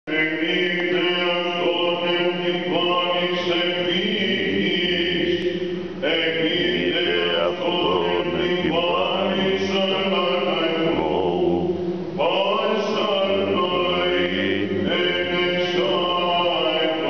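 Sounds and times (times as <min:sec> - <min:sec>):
male voices chanting: 0:00.2 - 0:17.0
low held drone note: 0:00.9 - 0:17.0.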